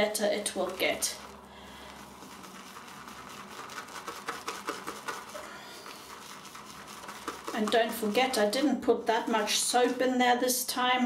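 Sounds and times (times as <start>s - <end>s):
brush whisking soap lather: 0.0s - 10.8s.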